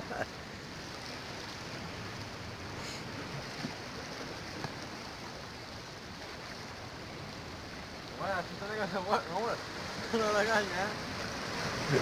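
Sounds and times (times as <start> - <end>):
sea surf: 0.0 - 12.0.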